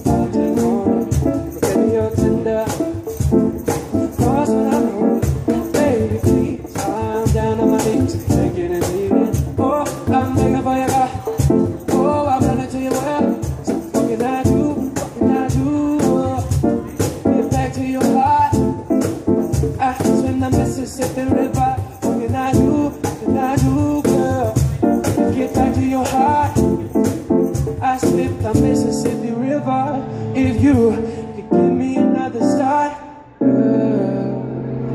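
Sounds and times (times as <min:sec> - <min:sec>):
percussion beat: 0:00.0 - 0:29.4
man singing into a microphone: 0:00.0 - 0:34.8
instrumental backing music: 0:00.0 - 0:34.9.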